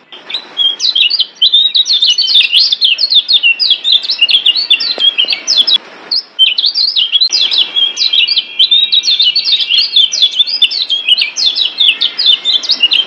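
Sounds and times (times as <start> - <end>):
bird chirps and trills: 0.0 - 13.0.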